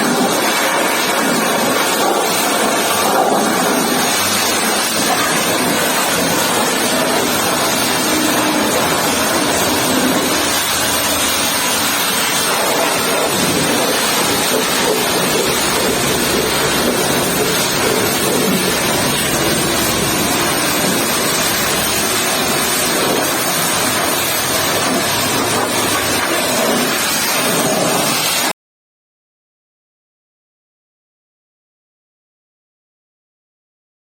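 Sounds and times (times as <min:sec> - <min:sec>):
pressure washer jet hissing: 0:00.0 - 0:28.5
water splattering: 0:00.1 - 0:28.4.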